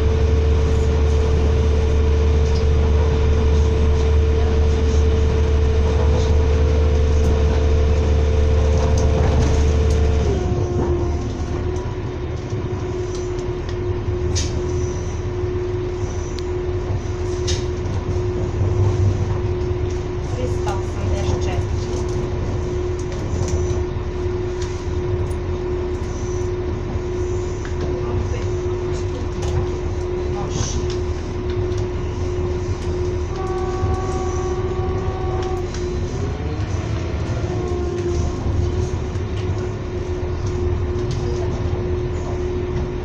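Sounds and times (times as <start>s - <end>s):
passenger train rumble: 0.0s - 43.0s
train humming tone: 0.0s - 43.0s.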